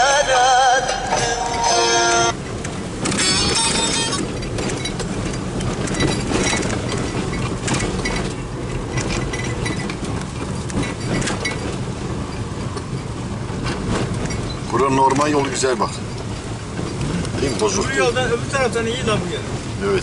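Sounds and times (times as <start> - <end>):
car driving on bumpy road: 0.0 - 20.0
car rattles and clinks: 0.0 - 20.0.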